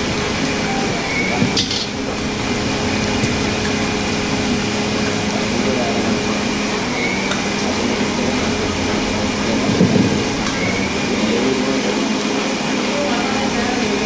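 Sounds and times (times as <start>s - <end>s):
hot oil sizzling: 0.0s - 14.0s
steady low hum: 0.0s - 14.0s.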